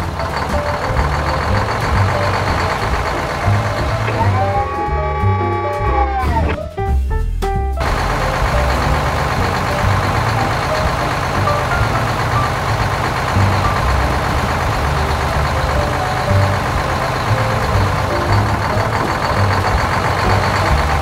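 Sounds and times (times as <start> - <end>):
heavy truck engine rumbling: 0.0 - 7.1, 7.8 - 21.0.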